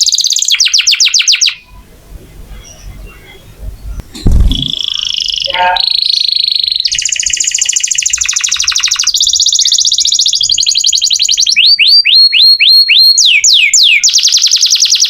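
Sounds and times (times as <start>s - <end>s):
canary singing trills: 0.0s - 15.0s.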